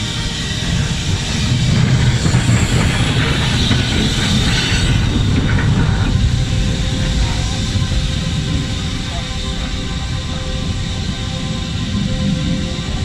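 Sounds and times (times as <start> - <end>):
steam train wheels rumbling on rails: 0.0 - 13.0.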